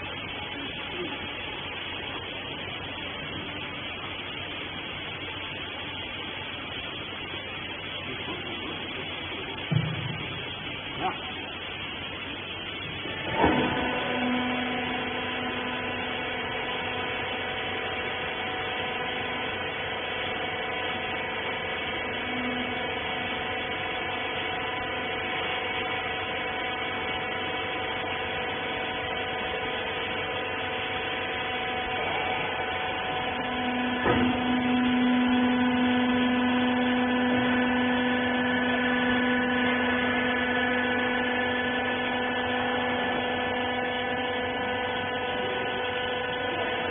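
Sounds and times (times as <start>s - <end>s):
hydraulic power unit humming: 0.0s - 46.9s.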